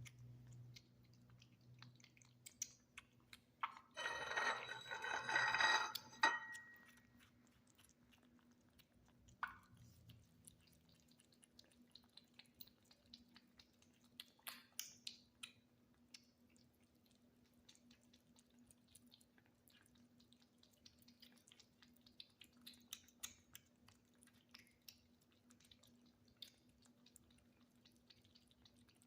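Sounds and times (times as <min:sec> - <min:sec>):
kittens chewing wet food: 0:00.0 - 0:04.0, 0:06.6 - 0:29.0.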